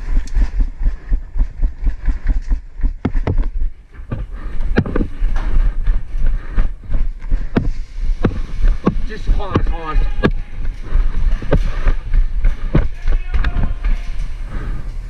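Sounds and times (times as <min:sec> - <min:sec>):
low thumps and rustling: 0:00.0 - 0:15.0.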